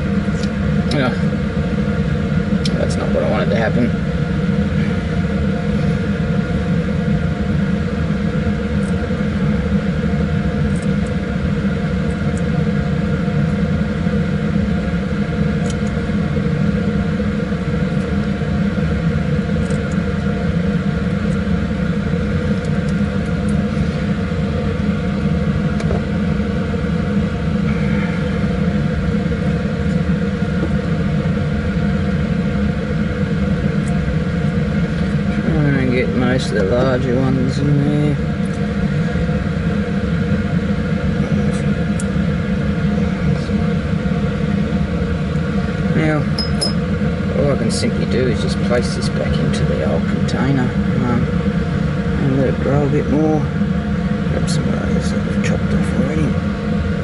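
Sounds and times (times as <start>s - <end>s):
blower fan humming: 0.0s - 57.0s.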